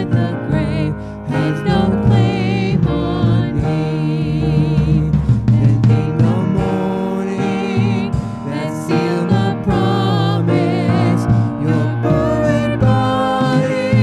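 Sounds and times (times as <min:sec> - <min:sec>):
drum kit beat: 0:00.0 - 0:14.0
grand piano chords: 0:00.0 - 0:14.0
man singing: 0:00.0 - 0:14.0
woman singing: 0:00.0 - 0:14.0.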